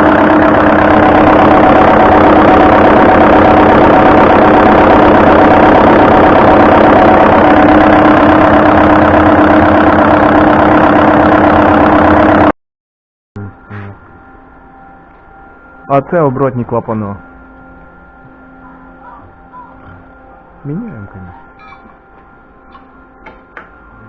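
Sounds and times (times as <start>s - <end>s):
loud machinery humming: 0.0s - 12.5s, 13.4s - 24.0s.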